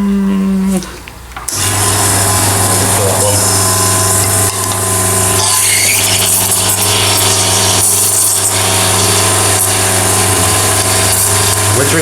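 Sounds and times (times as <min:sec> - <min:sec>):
espresso machine pump humming: 0:01.5 - 0:12.0.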